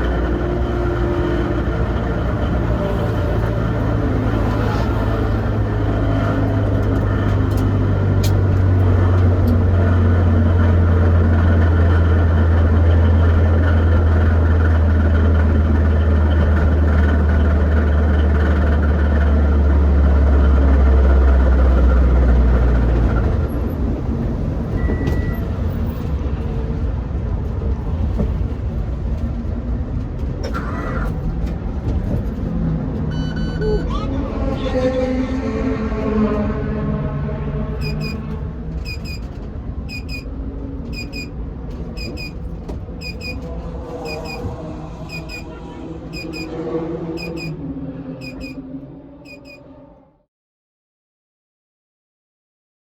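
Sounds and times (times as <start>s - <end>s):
vehicle engine low drone: 0.0s - 50.3s.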